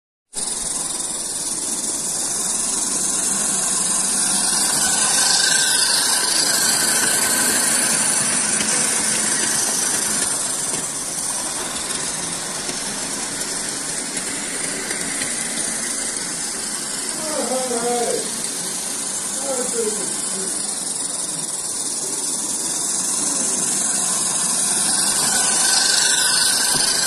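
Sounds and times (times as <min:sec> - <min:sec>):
model train whirring on track: 0:00.4 - 0:27.0.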